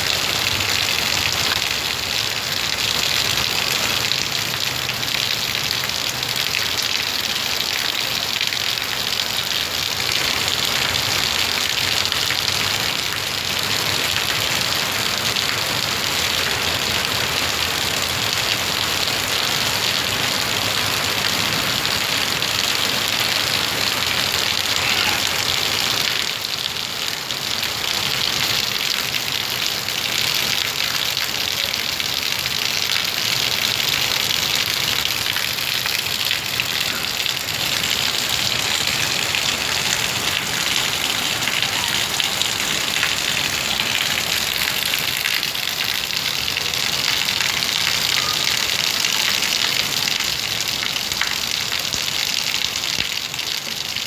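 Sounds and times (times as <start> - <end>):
heavy rain hiss: 0.0 - 50.6
water gushing: 0.0 - 54.0.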